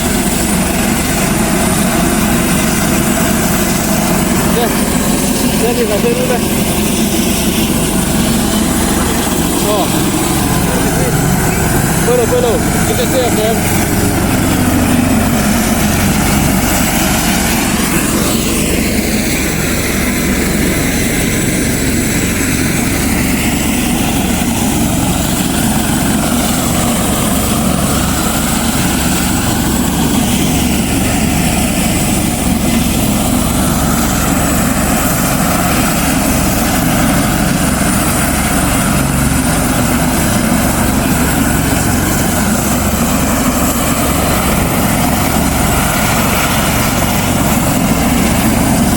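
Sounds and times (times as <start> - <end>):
helicopter rotor and engine: 0.0 - 48.9.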